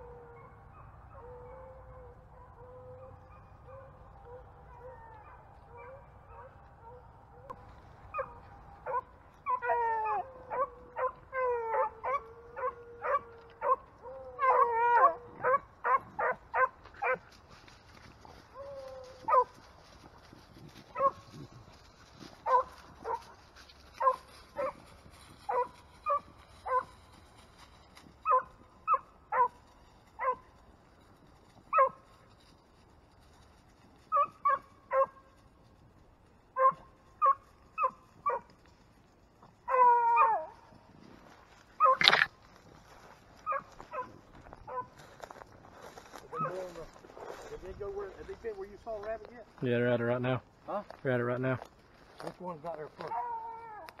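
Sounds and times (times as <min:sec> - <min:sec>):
dogs baying and barking: 0:00.0 - 0:30.6, 0:31.5 - 0:32.3, 0:33.7 - 0:35.5, 0:36.5 - 0:42.3, 0:43.0 - 0:49.2, 0:52.8 - 0:54.0.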